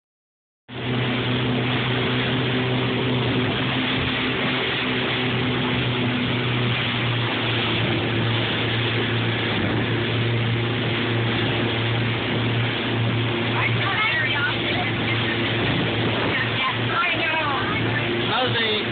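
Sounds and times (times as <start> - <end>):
powerboat engine drone: 0.7 - 18.9
rush of wake and spray: 0.7 - 18.9.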